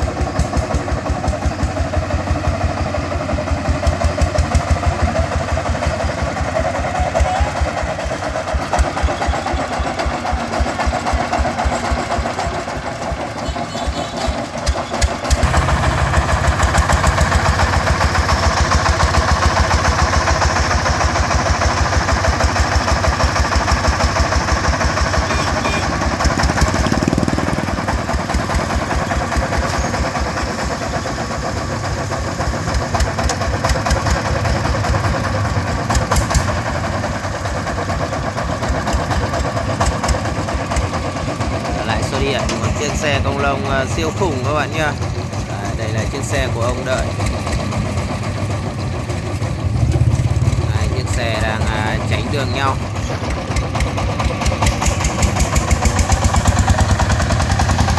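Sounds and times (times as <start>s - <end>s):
diesel engine chugging: 0.0s - 57.9s.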